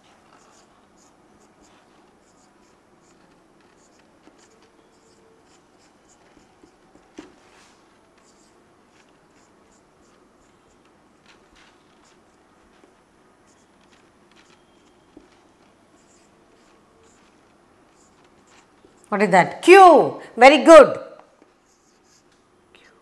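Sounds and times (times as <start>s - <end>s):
marker squeaking on whiteboard: 0.1s - 19.1s, 21.6s - 22.3s.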